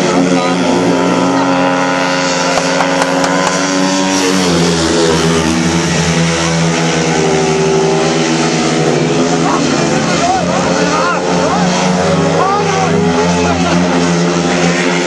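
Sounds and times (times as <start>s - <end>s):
motorcycles racing: 0.0s - 15.0s.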